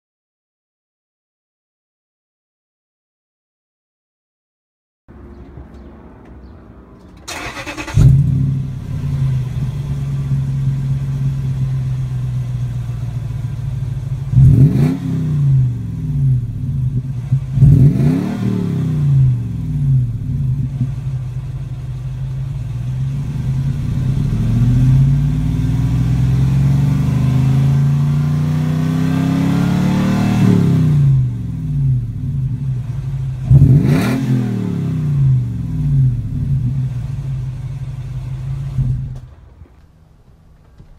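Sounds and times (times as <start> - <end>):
car engine idling and revving: 5.1 - 40.9.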